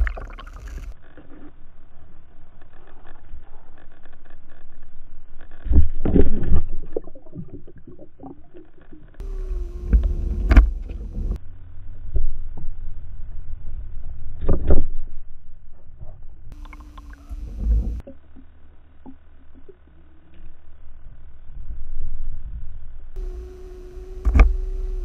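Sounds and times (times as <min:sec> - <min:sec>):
faint steady hum: 0:00.0 - 0:25.0
low rumbling underwater noise: 0:00.0 - 0:25.0.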